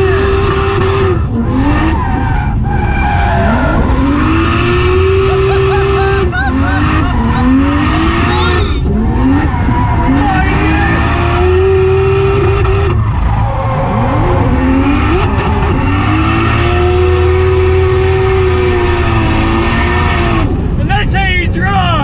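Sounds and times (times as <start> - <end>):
turbocharged engine revving hard: 0.0 - 20.5.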